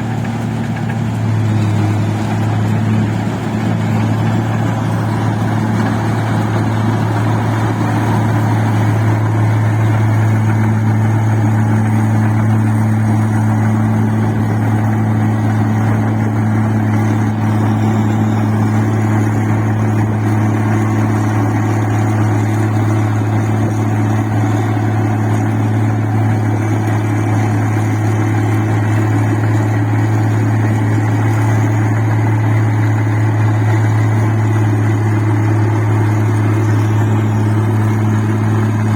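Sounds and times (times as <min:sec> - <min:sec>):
dense mechanical clatter: 0:00.0 - 0:38.9
machine engine humming: 0:00.0 - 0:38.9.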